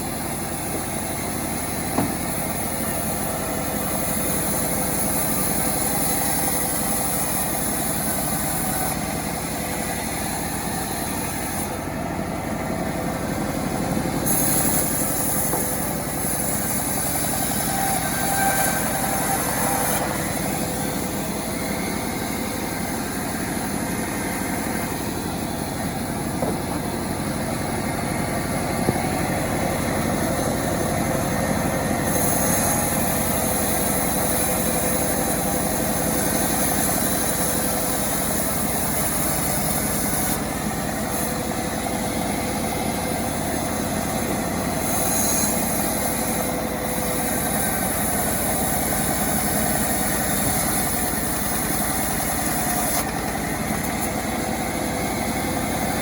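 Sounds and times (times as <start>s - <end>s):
harsh high hiss: 0.0s - 11.9s, 12.6s - 56.0s
chainsaw engine running: 0.0s - 56.0s.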